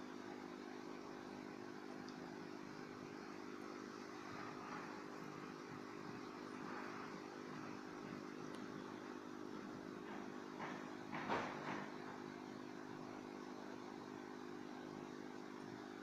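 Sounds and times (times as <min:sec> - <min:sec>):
aquarium air pump humming: 0:00.0 - 0:16.0.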